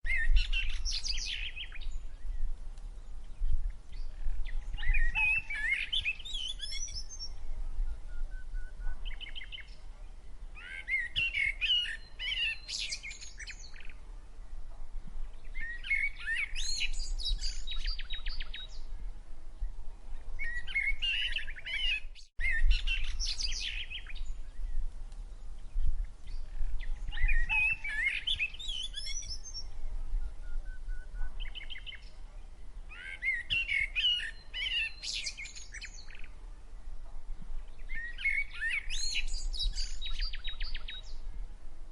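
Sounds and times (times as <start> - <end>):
songbirds singing: 0.0 - 41.6.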